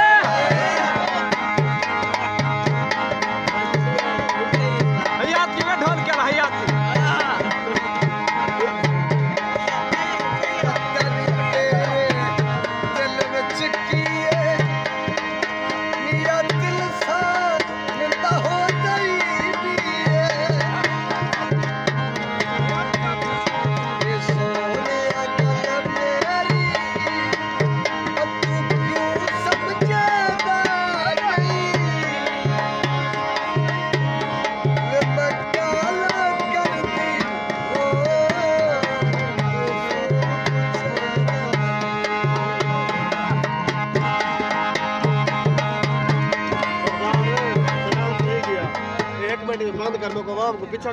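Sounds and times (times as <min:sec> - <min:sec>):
ornamented melody line: 0:00.0 - 0:50.9.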